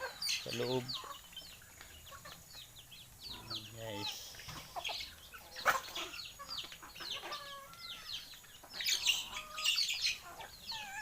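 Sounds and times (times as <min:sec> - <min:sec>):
chickens peeping: 0:00.0 - 0:11.0.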